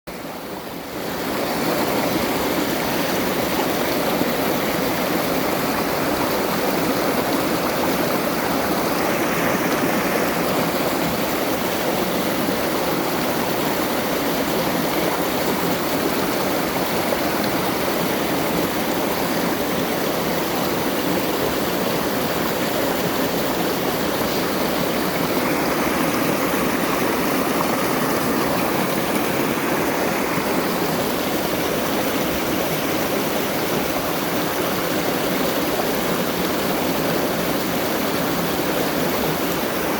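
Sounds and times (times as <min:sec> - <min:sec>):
stream flowing: 0:00.1 - 0:39.9.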